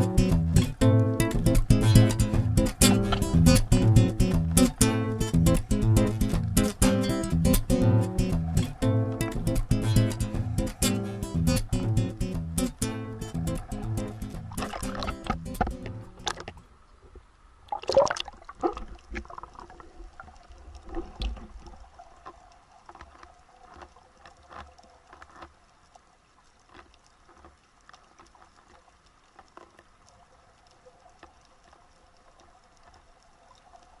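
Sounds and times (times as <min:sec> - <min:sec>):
faint clicks: 0:00.0 - 0:17.3, 0:20.2 - 0:34.0
water sloshing and bubbling: 0:00.0 - 0:34.0.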